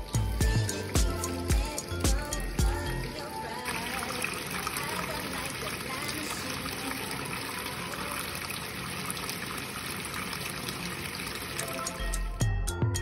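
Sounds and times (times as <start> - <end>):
water pouring into washing machine: 0.0 - 12.4.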